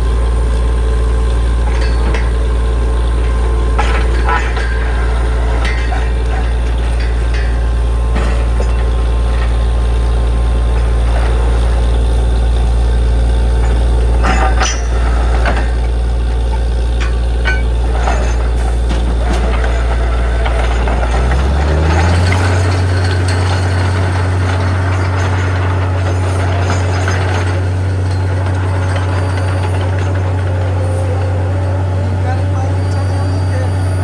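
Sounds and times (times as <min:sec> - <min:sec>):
heavy diesel engine running: 0:00.0 - 0:34.0
metallic clinks and knocks: 0:01.6 - 0:12.0, 0:13.6 - 0:31.1.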